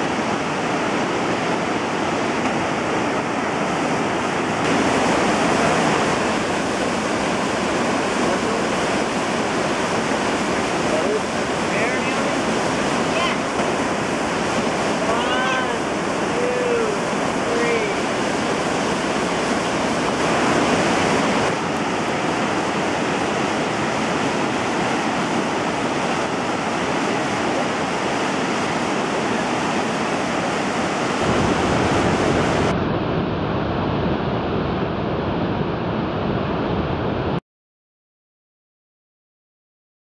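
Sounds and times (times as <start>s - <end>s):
whitewater rushing over rocks: 0.0s - 33.3s.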